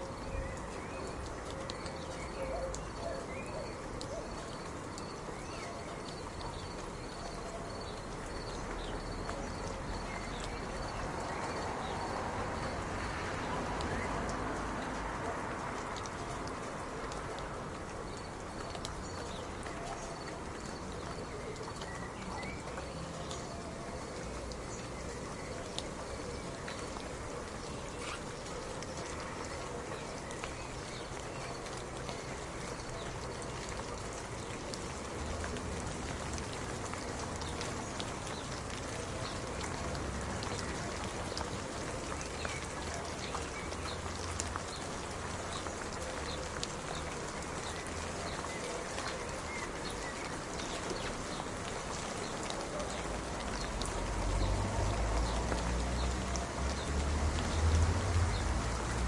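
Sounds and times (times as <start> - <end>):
raindrops pattering on a surface: 0.0 - 59.0.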